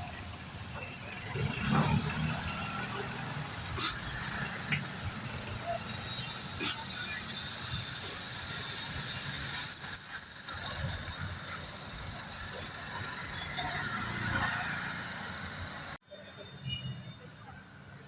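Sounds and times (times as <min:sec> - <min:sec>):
street traffic engines: 0:00.0 - 0:18.0.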